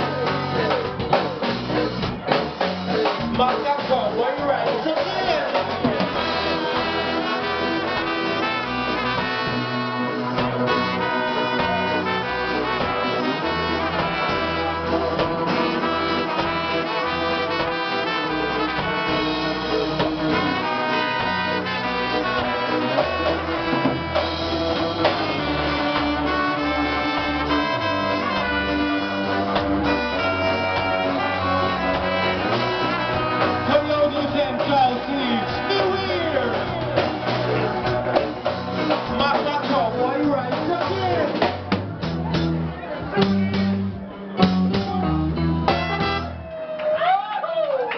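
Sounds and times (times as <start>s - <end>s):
trombone and trumpet melody: 0.0s - 46.5s
live reggae band: 0.0s - 47.9s.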